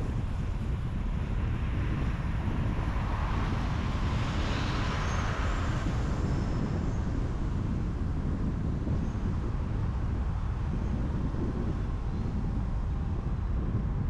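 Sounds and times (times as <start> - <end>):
car road and tyre noise: 0.0 - 14.0
deep rumble: 0.0 - 14.0.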